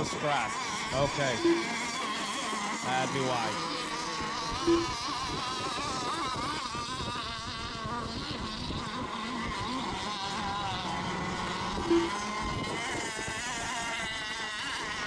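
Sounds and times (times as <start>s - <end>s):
model boat engines whining: 0.0s - 15.0s.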